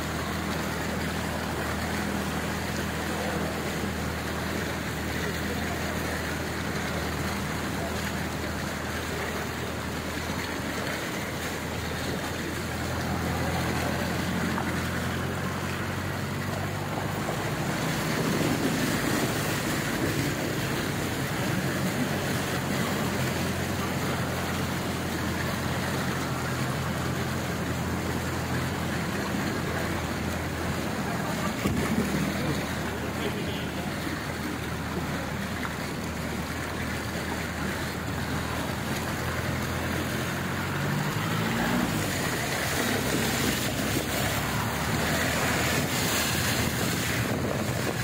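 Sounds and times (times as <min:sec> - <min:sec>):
vehicle engine humming: 0:00.0 - 0:48.0
water splashing from wheels: 0:00.0 - 0:48.0.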